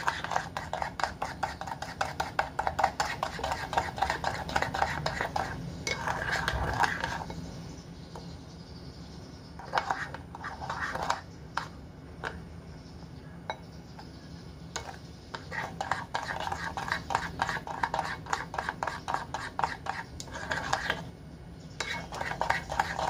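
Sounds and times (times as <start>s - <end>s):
metal spoon stirring in a bowl: 0.0s - 8.3s, 9.6s - 12.4s, 14.7s - 21.1s, 21.7s - 23.0s.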